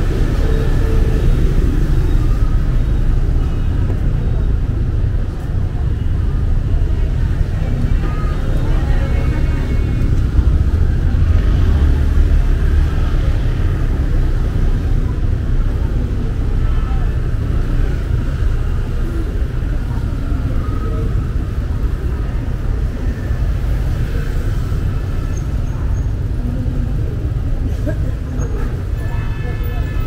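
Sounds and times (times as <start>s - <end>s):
indistinct voices: 0.0s - 30.0s
traffic rumble: 0.0s - 30.0s.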